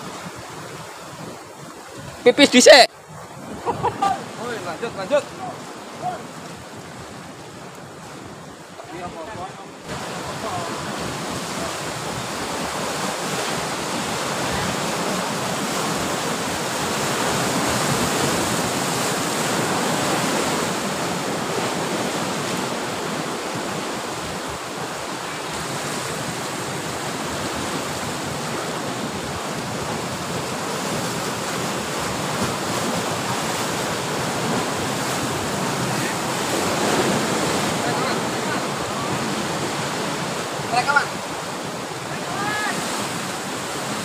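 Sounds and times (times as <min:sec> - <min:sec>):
sea surf breaking ashore: 0:00.0 - 0:44.0.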